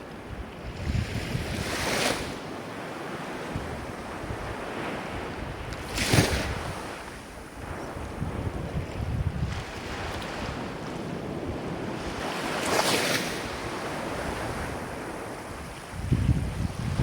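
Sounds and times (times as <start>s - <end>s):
waves breaking: 0.8s - 17.0s.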